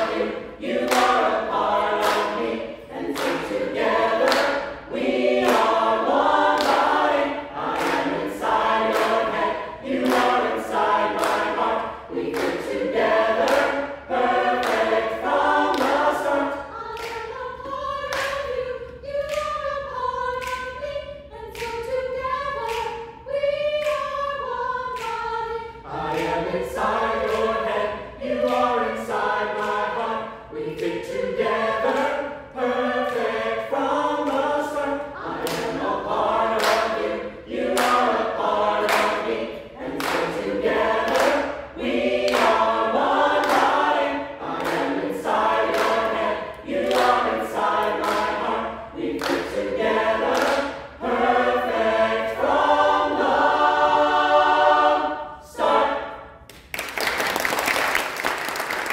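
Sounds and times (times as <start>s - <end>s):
handclaps keeping the beat: 0.0s - 51.8s, 56.4s - 58.9s
choir singing a cappella: 0.0s - 56.7s.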